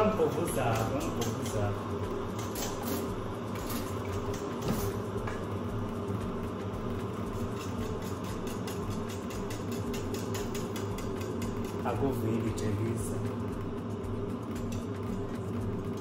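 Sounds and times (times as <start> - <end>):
steady low hum: 0.0 - 16.0
whisk beating eggs in metal bowl: 0.0 - 16.0.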